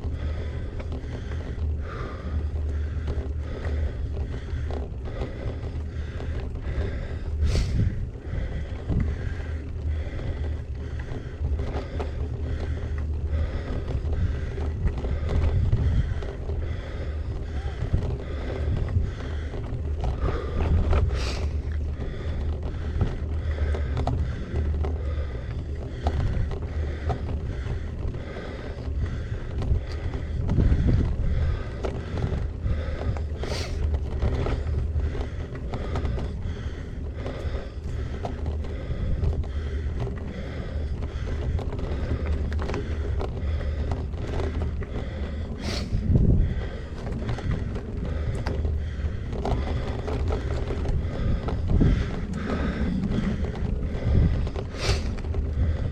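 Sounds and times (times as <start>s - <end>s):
bike rattling over bumps: 0.0s - 55.9s
wind rumbling on microphone: 0.0s - 55.9s.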